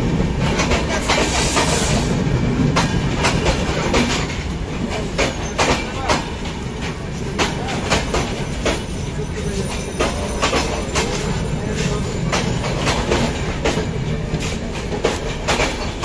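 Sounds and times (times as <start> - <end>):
train wheels rumbling on rail: 0.0 - 16.0
wheels clicking over rail joints: 2.7 - 16.0.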